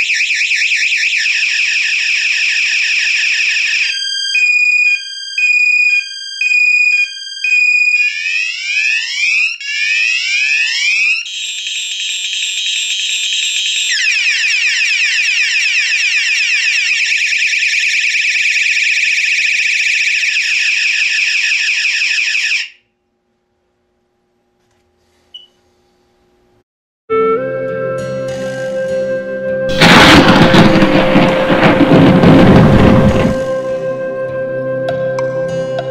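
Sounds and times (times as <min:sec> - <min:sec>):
alarm siren changing tone patterns: 0:00.0 - 0:22.8, 0:29.7 - 0:35.7.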